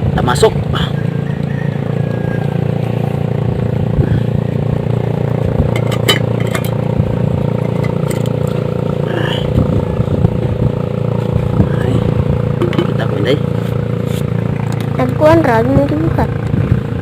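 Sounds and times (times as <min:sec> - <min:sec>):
small engine droning: 0:00.0 - 0:17.0.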